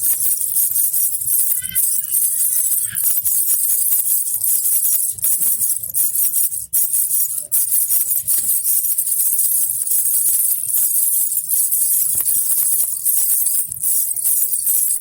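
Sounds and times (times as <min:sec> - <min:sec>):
baby rattle jingling: 0:00.0 - 0:15.0.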